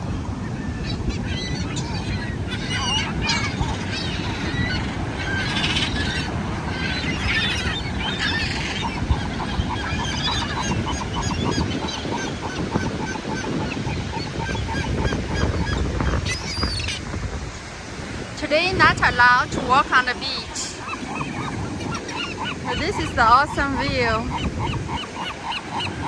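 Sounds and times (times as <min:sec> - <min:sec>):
gulls squawking and calling: 0:00.0 - 0:17.2, 0:17.9 - 0:26.0
surf washing: 0:00.0 - 0:26.0.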